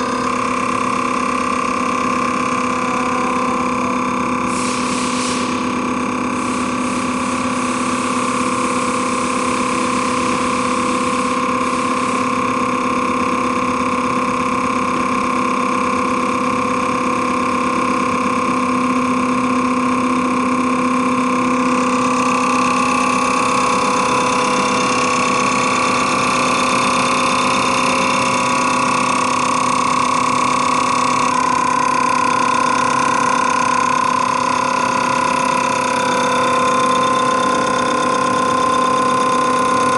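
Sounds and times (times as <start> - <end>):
test bench mechanical whine: 0.0 - 39.9.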